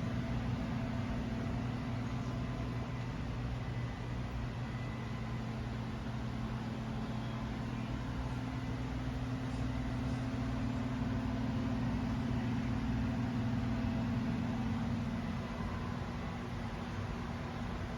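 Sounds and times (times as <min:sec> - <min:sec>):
electrical hum: 0:00.0 - 0:17.9.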